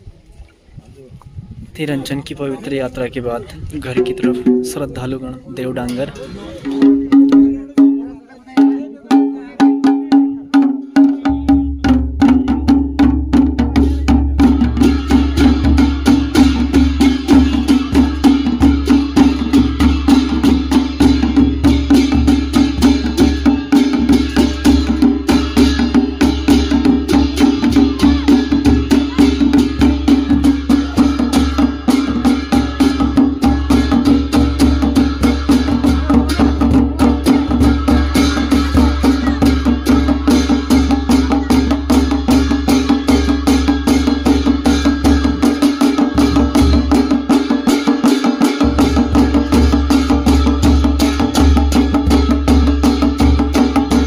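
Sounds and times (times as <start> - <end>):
small kettle drums: 3.7 - 54.0
large drum beaten with sticks: 3.8 - 54.0.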